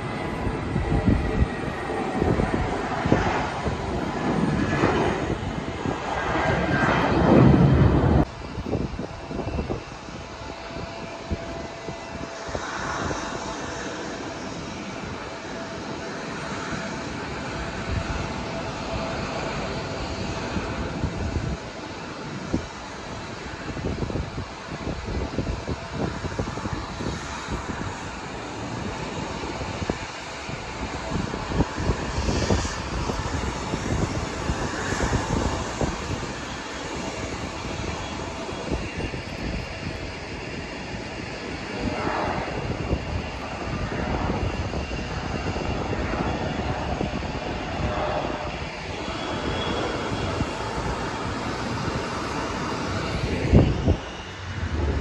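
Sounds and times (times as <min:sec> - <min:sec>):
distant jet engines rumbling: 0:00.0 - 0:55.0
wind buffeting microphone: 0:00.0 - 0:55.0.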